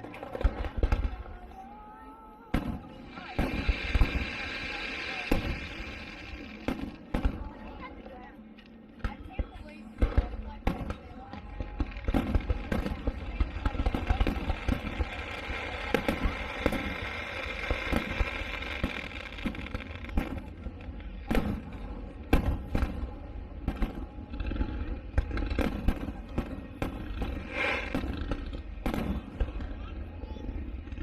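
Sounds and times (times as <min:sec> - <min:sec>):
fireworks bangs and crackles: 0:00.0 - 0:31.0
loud firework booms: 0:02.5 - 0:07.9, 0:09.0 - 0:30.0.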